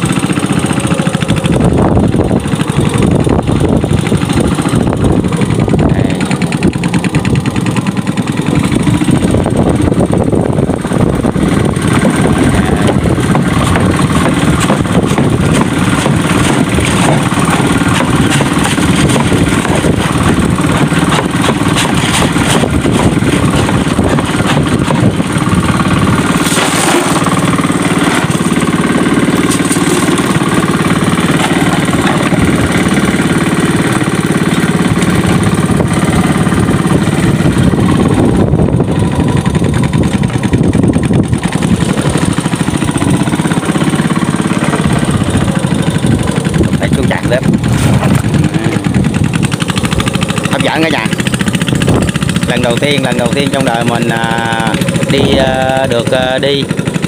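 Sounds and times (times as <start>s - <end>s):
small boat engine running: 0.0s - 57.0s.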